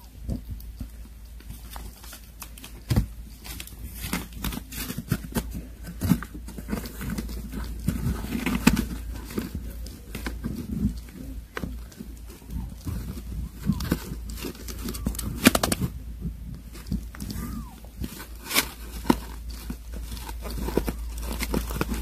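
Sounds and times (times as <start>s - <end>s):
kittens crunching dry kibble: 0.0s - 22.0s
newspaper crinkling: 1.1s - 22.0s.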